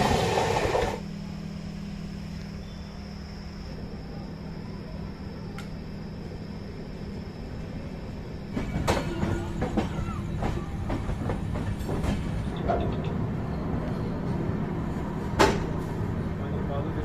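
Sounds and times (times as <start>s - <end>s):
train coaches rumbling on track: 0.0s - 1.0s, 3.7s - 17.0s.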